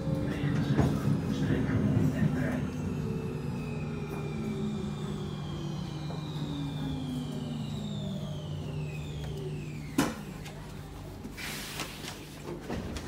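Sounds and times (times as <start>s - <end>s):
steady low hum: 0.0s - 11.4s
train motors whining down: 0.0s - 11.6s.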